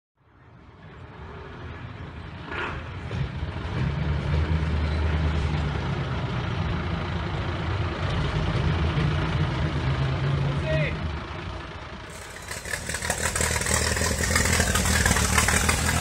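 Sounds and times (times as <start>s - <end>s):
truck engines driving slowly past: 0.2s - 16.0s.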